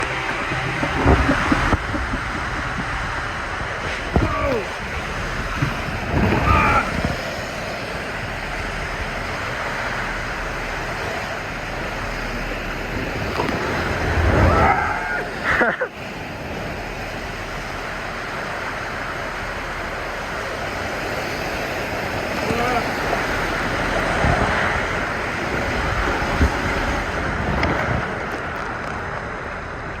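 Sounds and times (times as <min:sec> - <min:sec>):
water and air rushing: 0:00.0 - 0:30.0
wind buffeting microphone: 0:00.0 - 0:30.0.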